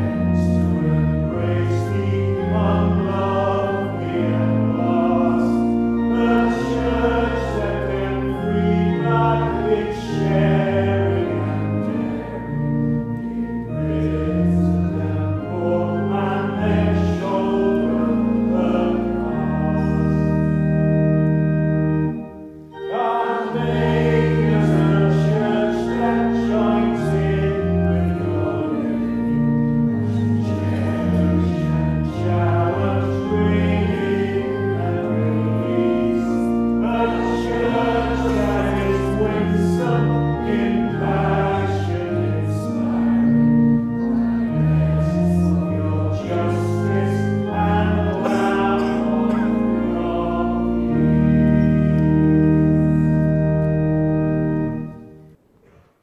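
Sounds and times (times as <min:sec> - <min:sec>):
congregation singing a hymn: 0:00.0 - 0:55.3
organ accompaniment: 0:00.0 - 0:55.9.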